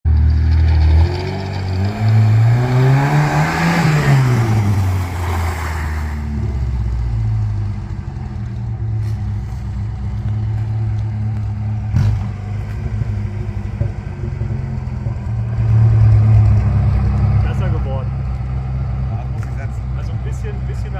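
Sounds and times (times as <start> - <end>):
car engine accelerating: 0.1 - 20.9.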